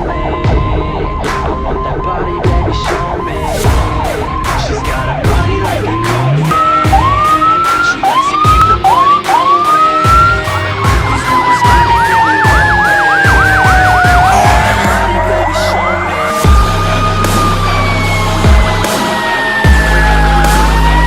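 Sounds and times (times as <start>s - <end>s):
siren rapid yelp: 0.0s - 21.0s
fire truck siren whooping: 3.0s - 21.0s
siren falling tone: 3.2s - 21.0s.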